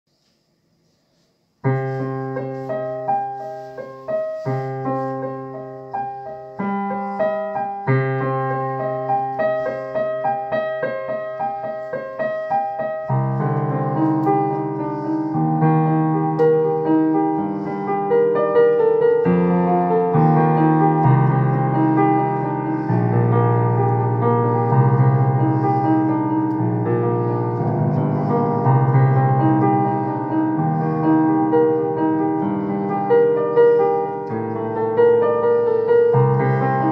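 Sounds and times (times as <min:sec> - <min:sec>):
digital piano chords: 0:01.5 - 0:36.9.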